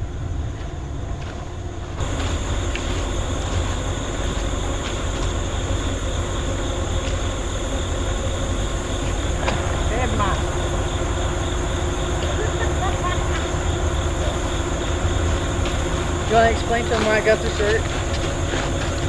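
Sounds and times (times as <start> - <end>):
pickup truck engine rumbling: 0.0 - 19.0.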